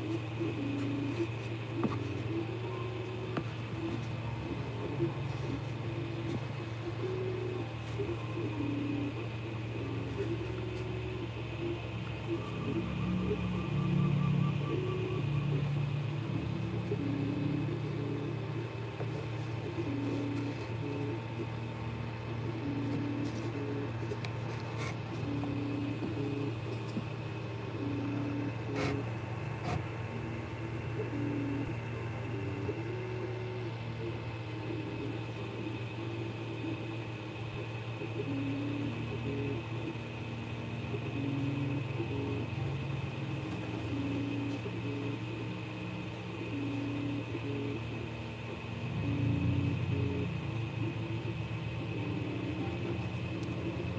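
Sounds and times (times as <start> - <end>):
cooling fans humming: 0.0 - 53.9
stepper motors whining: 0.0 - 53.9.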